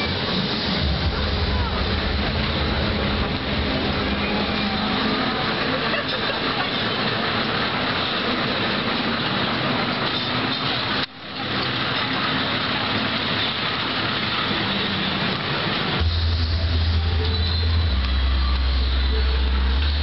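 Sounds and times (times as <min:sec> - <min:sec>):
train ride rumble and rail noise: 0:00.0 - 0:20.0.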